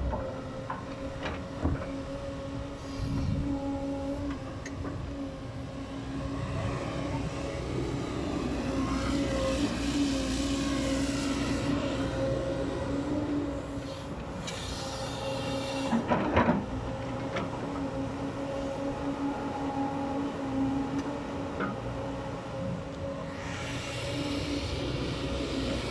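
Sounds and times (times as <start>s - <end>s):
excavator engine and hydraulics: 0.0s - 25.9s.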